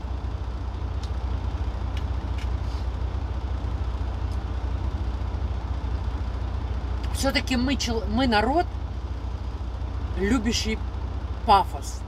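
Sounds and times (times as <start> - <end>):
idling truck engine rumble: 0.0 - 12.0.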